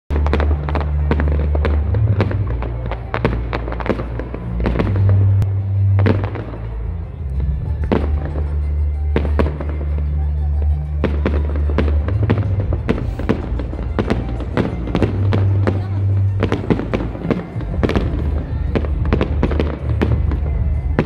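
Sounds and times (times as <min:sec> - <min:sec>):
fireworks bangs and crackling: 0:00.1 - 0:21.0
music with heavy bass: 0:00.1 - 0:21.0.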